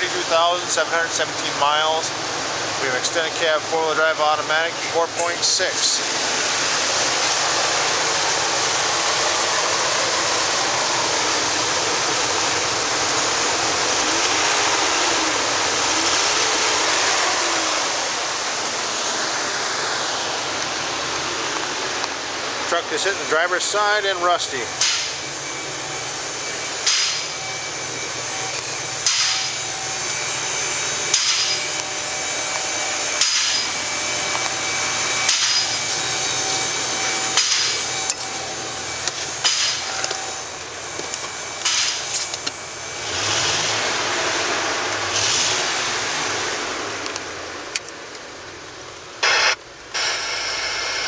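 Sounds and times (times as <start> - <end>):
rush of noise: 0.0 - 41.0, 49.1 - 51.0.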